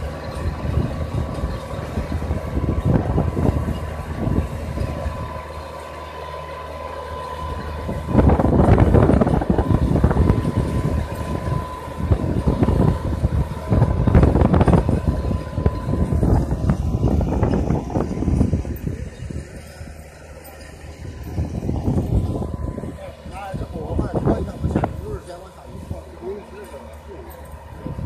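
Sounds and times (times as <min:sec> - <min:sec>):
gusty rumbling noise: 0:00.0 - 0:05.4, 0:07.4 - 0:20.0, 0:20.8 - 0:26.0, 0:27.7 - 0:28.0
tractor engine running: 0:00.0 - 0:28.0.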